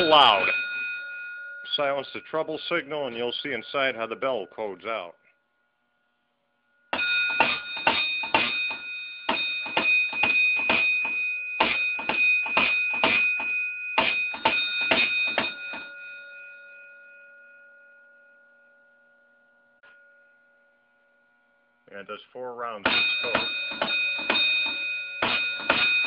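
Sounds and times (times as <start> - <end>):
fire alarm bell ringing: 0.0 - 5.8, 6.5 - 26.0.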